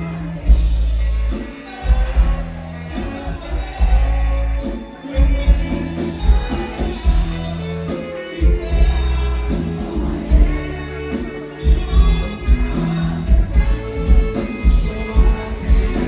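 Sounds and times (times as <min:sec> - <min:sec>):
live band music with singer: 0:00.0 - 0:16.0
pulsing bass: 0:00.0 - 0:16.0.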